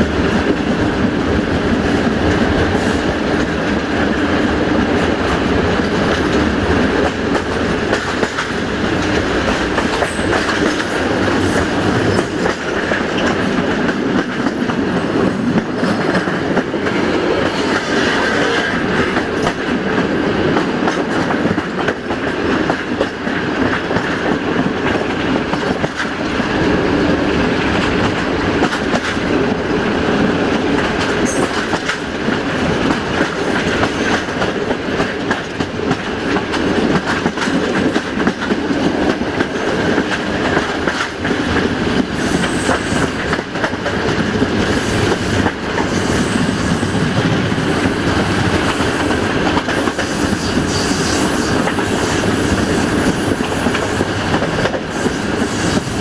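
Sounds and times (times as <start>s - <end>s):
train wheels rolling over rails: 0.0s - 56.0s.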